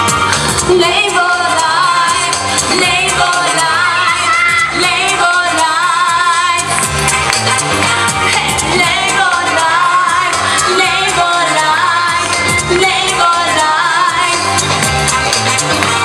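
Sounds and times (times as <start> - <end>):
upbeat dance music with vocals: 0.0 - 16.0.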